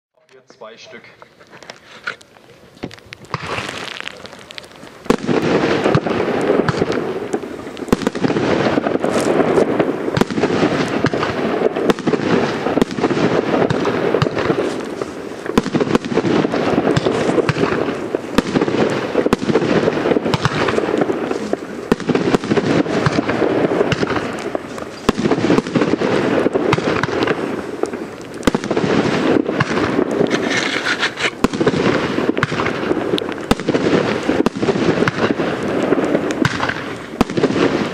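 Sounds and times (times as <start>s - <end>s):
fireworks barrage launching and bursting: 0.6s - 37.9s.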